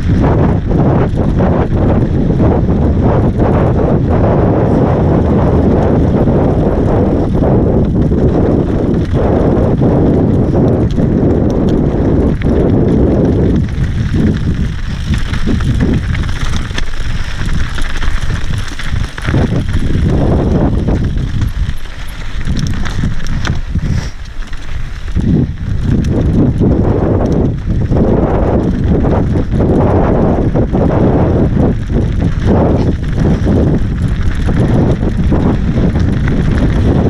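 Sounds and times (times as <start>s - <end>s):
bike clattering and rattling: 0.0s - 37.0s
bike tyres rumbling over stones: 0.0s - 37.0s
wind rushing over microphone: 0.0s - 37.0s.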